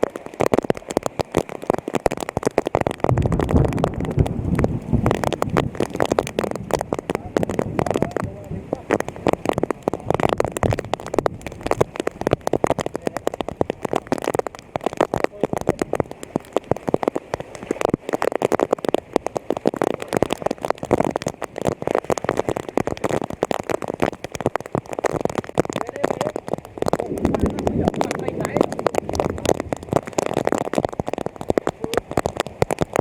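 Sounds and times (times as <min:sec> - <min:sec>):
rain pattering on water: 0:00.0 - 0:33.0.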